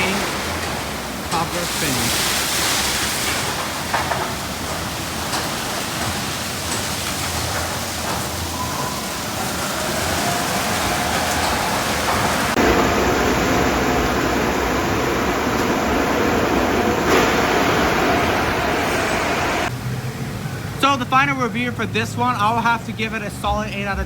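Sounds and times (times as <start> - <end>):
high-pressure water spray hissing: 0.0 - 19.7.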